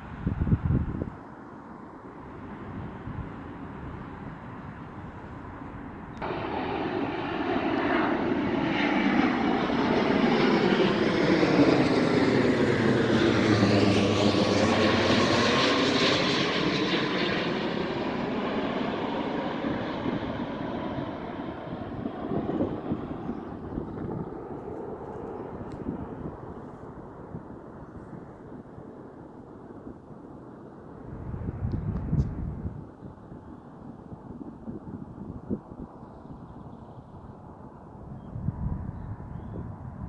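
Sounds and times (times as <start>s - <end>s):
airplane flying over: 0.0s - 40.0s.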